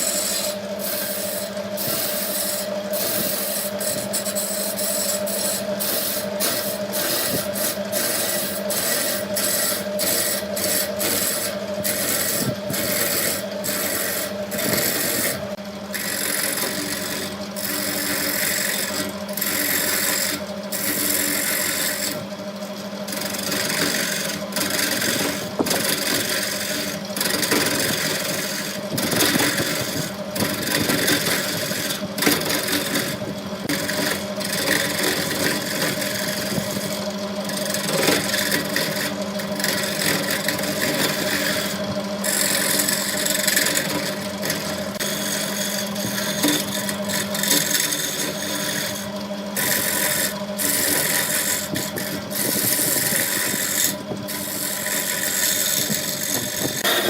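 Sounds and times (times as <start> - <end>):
rough scraping of spinning wood: 0.0 - 57.0
wood lathe humming: 0.0 - 57.0.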